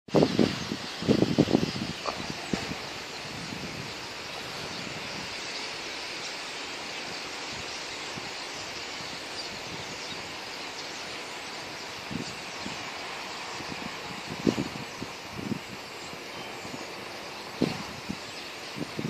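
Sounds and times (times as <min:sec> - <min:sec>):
starlings chattering: 0:00.1 - 0:19.0.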